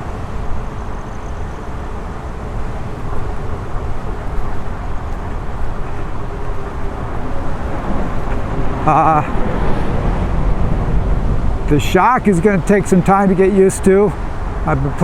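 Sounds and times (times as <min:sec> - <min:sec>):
road rumble: 0:00.0 - 0:15.0
wind: 0:00.0 - 0:15.0.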